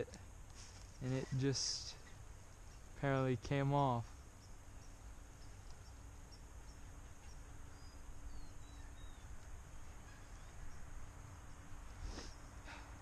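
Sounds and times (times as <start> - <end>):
high insect drone: 0.0 - 13.0
bird chirps: 2.0 - 12.8.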